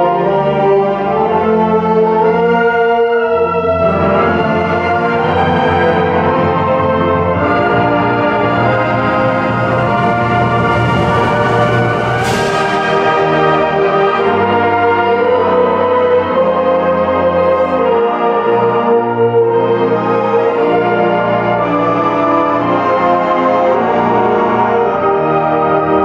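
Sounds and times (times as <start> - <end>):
concert band playing sustained chords: 0.0 - 26.0.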